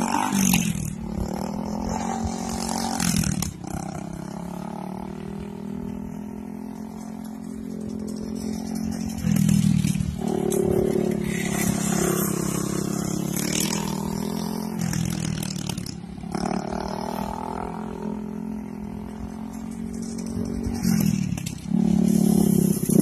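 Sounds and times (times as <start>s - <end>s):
go-kart engine running: 0.0s - 23.0s.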